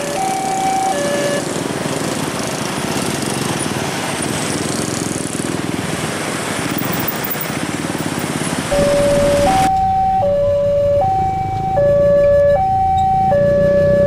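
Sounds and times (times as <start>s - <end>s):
many motorcycle engines running: 0.0s - 14.0s.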